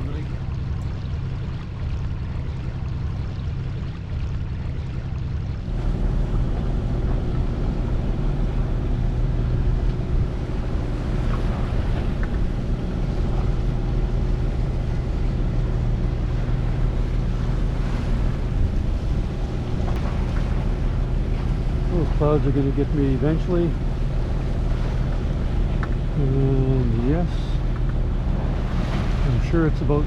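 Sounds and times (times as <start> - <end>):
boat engine running: 0.0 - 30.0
water washing around boat: 0.0 - 30.0
wind on microphone: 5.6 - 30.0.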